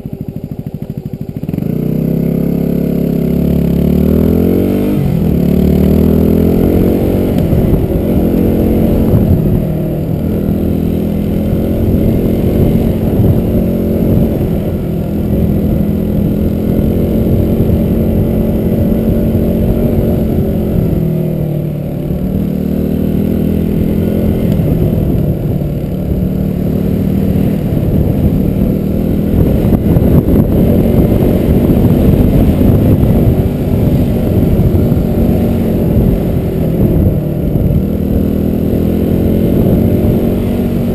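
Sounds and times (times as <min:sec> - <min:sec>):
vehicle engine under load: 0:00.0 - 0:40.9.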